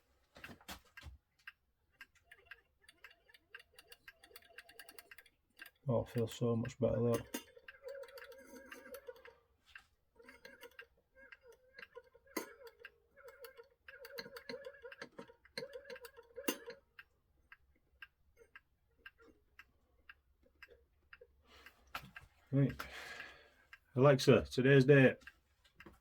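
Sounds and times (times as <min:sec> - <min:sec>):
clock ticking: 0:00.0 - 0:26.0.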